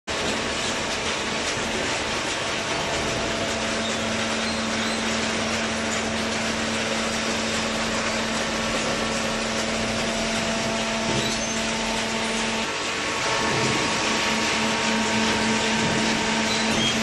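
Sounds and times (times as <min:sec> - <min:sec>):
baling machine humming and whirring: 0:00.1 - 0:17.0.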